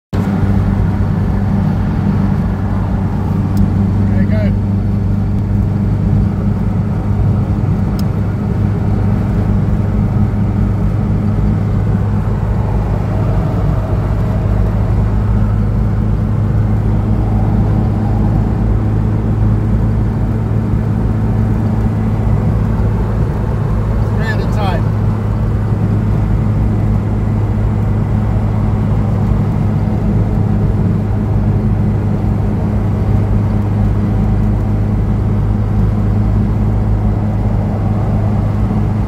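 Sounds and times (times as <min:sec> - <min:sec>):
car engine droning: 0:00.1 - 0:39.0
road and tyre noise: 0:00.1 - 0:39.0.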